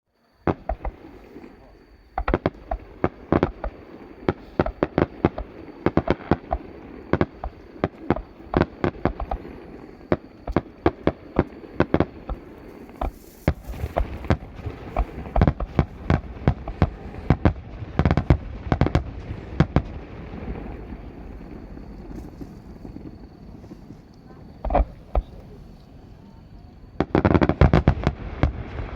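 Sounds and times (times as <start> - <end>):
fireworks bursting: 0.4 - 28.9.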